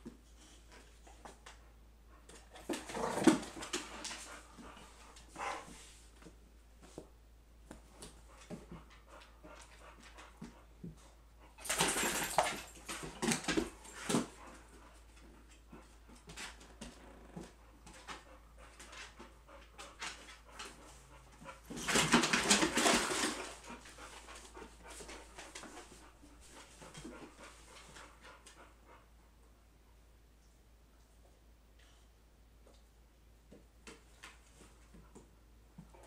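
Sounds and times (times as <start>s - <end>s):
puppies playing dog noises: 0.0s - 29.8s.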